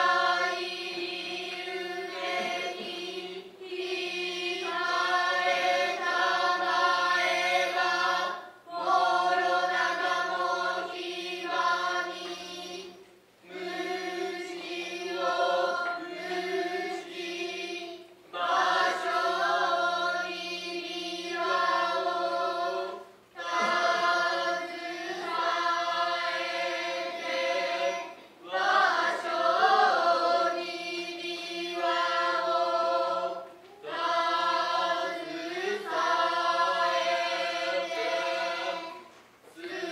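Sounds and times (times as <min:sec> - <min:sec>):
children's chorus chanting: 0:00.0 - 0:39.9.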